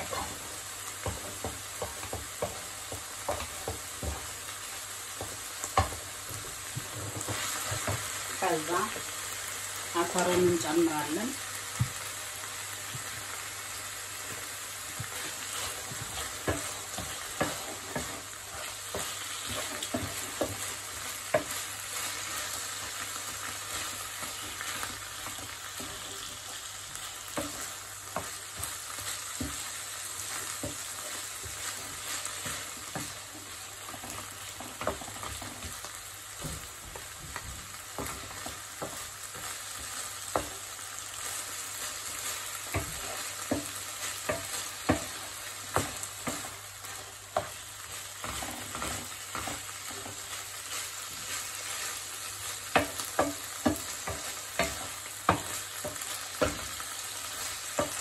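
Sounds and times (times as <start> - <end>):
wooden spoon scraping a pan: 0.0 - 11.2, 14.1 - 58.0
meat sizzling in a frying pan: 0.0 - 58.0.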